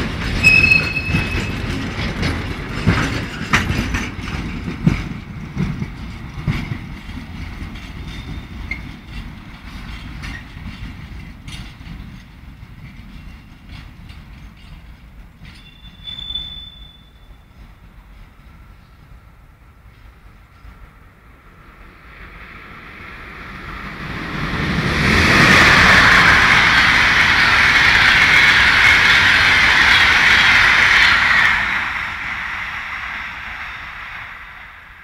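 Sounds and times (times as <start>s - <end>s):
train passing at speed: 0.0s - 35.0s.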